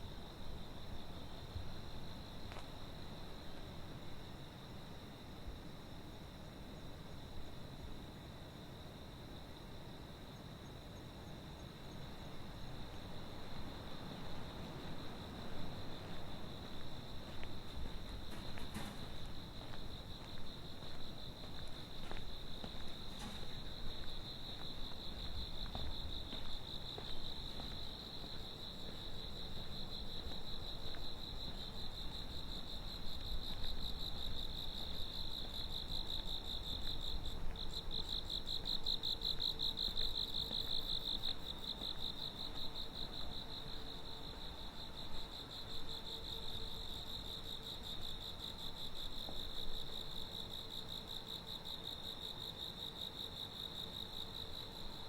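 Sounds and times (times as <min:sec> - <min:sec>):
crickets trilling: 0:10.6 - 0:55.0.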